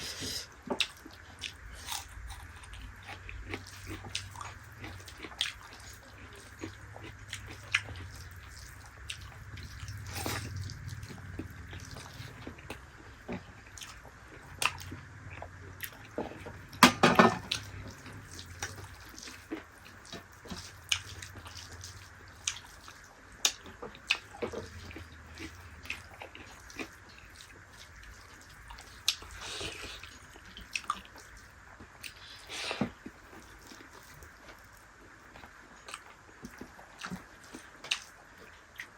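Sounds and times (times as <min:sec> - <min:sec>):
wet chewing: 0:00.0 - 0:16.8, 0:17.4 - 0:38.9.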